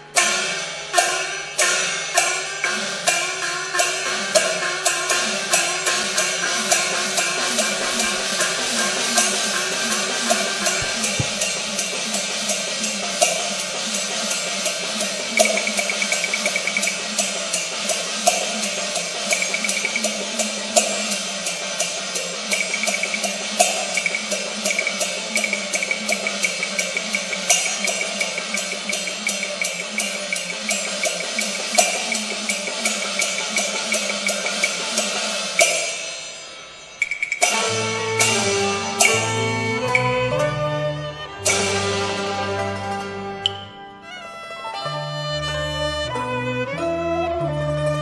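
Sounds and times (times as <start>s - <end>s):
opera percussion cymbals and drum: 0.0s - 46.9s
pitched accompaniment: 3.9s - 21.8s, 22.4s - 48.0s.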